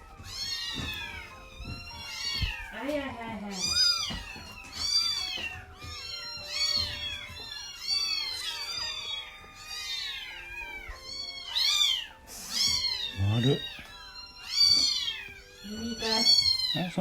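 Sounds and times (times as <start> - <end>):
kittens mewing: 0.0 - 17.0.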